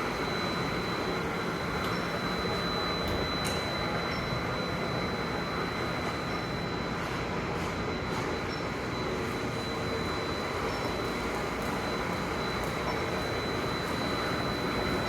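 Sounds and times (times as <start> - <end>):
high constant whine: 0.0 - 15.0.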